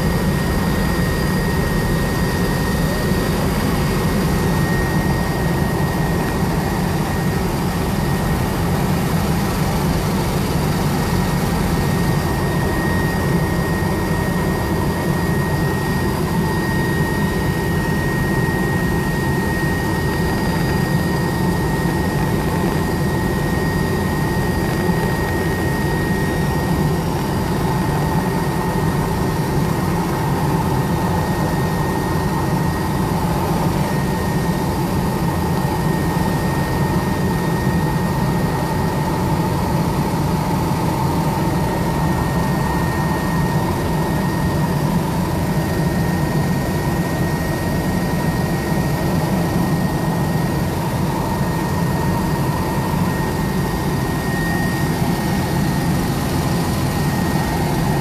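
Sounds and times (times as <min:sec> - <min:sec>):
helicopter drone inside cabin: 0:00.0 - 0:58.0
high whine: 0:00.0 - 0:58.0.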